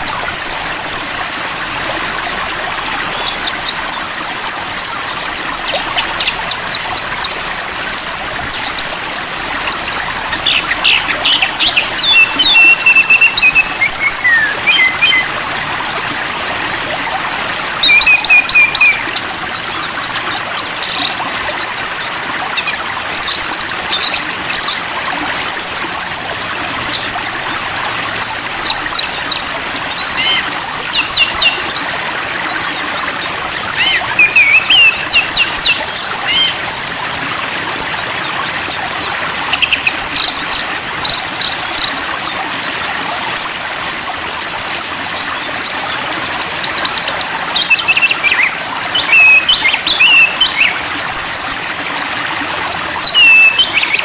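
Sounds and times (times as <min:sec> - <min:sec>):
songbirds chirping and whistling: 0:00.0 - 0:15.8, 0:16.8 - 0:51.8, 0:53.0 - 0:54.0
stream water running: 0:00.0 - 0:54.0.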